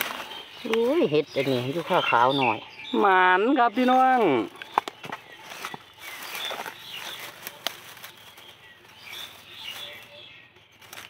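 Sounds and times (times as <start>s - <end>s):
dry grass rustling and crackling: 0.0s - 11.0s.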